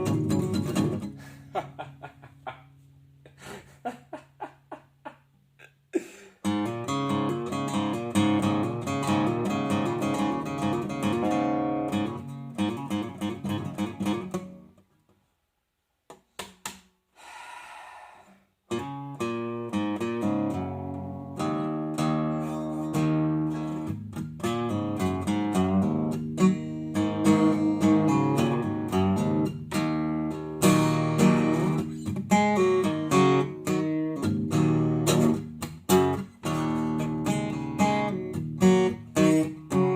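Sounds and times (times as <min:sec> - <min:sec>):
guitar playing: 0:00.0 - 0:03.2, 0:06.4 - 0:14.8, 0:18.7 - 0:39.9.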